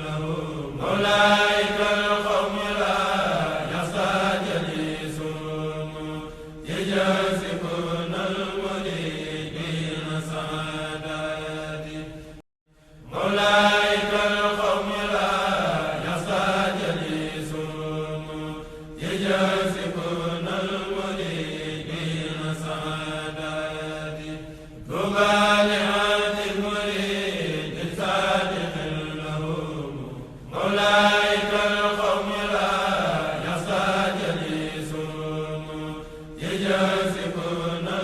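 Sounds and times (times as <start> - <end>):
voices chanting in unison: 0.0 - 38.0.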